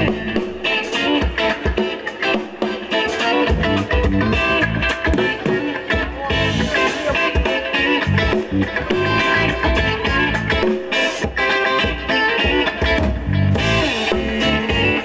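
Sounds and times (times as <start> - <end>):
band music with guitar: 0.0 - 15.0
steady drum beat: 0.0 - 15.0.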